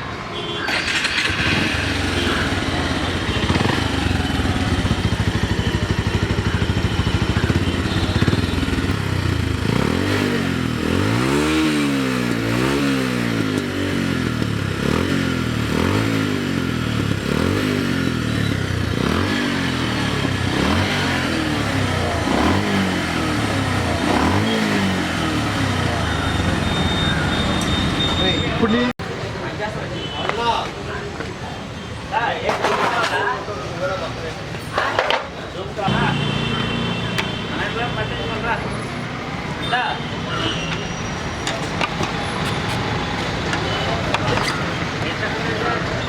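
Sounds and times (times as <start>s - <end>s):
motorcycle engine idling and revving: 0.7s - 29.3s, 34.1s - 46.0s.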